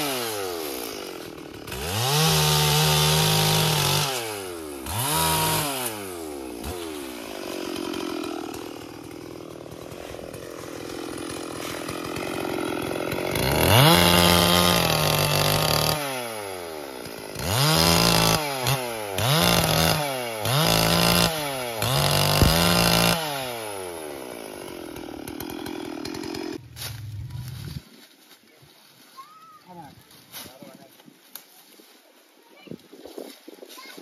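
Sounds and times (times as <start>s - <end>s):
chainsaw idling and revving: 0.0s - 27.8s.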